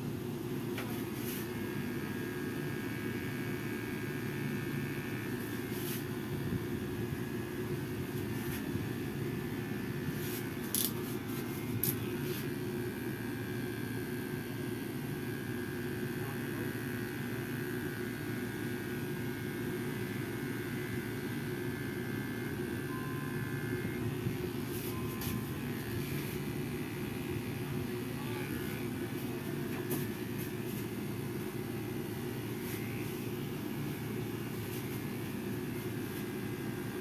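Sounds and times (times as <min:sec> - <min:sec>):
electric hair clippers buzzing: 0:00.0 - 0:37.0.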